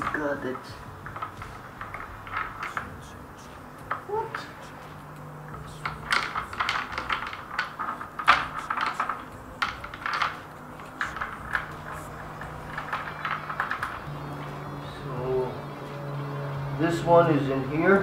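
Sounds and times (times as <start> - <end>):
metal chain clinking: 0.0 - 14.7.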